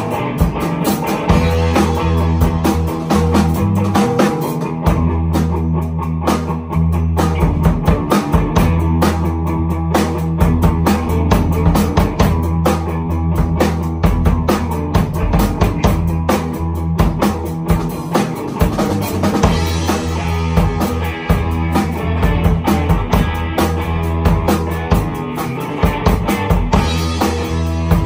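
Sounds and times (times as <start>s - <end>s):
drum kit beat: 0.0s - 28.0s
strummed guitar: 0.0s - 28.0s
sustained bass: 0.0s - 28.0s.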